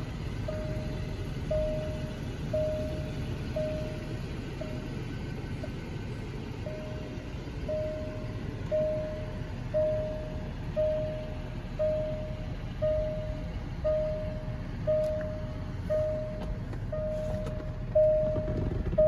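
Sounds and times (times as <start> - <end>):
car warning chime: 0.0 - 5.0, 6.6 - 19.0.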